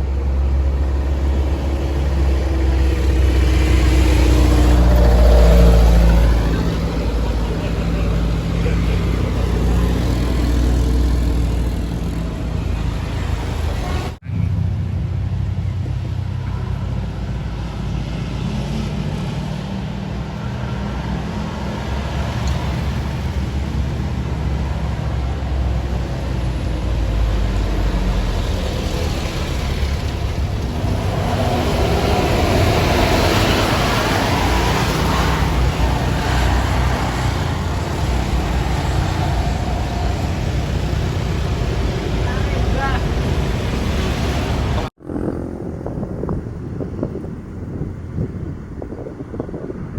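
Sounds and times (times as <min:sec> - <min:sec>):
heavy engine drone: 0:00.0 - 0:49.7
road traffic: 0:00.0 - 0:49.9
vehicle passing close: 0:00.0 - 0:49.9.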